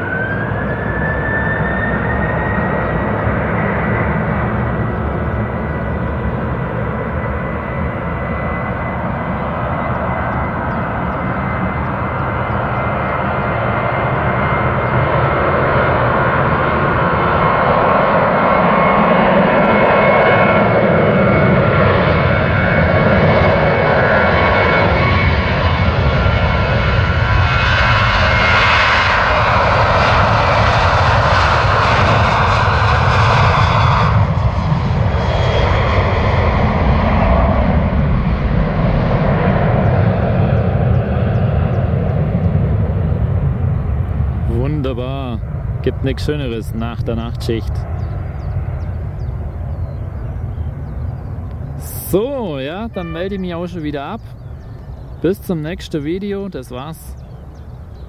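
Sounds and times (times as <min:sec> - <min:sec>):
jet engine rumble: 0:00.0 - 0:58.0
jet engine whine: 0:00.0 - 0:58.0.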